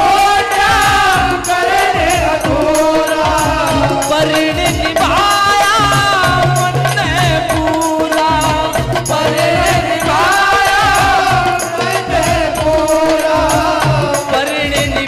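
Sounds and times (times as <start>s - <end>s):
devotional music: 0.0s - 15.0s
steady drum beat: 0.0s - 15.0s.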